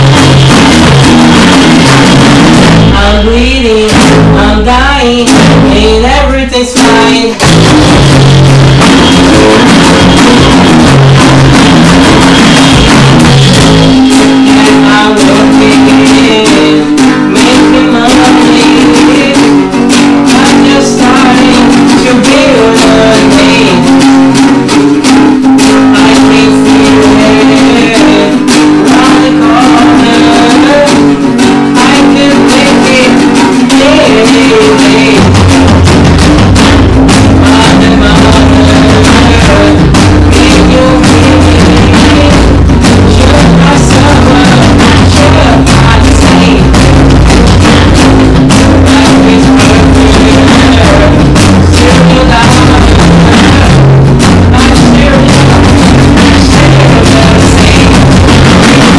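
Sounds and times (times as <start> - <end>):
electronic drums: 0.0 - 3.0, 3.9 - 6.2, 6.8 - 58.9
acoustic guitar strumming: 0.0 - 58.9
electric bass: 0.0 - 58.9
instrumental rock band: 0.0 - 58.9.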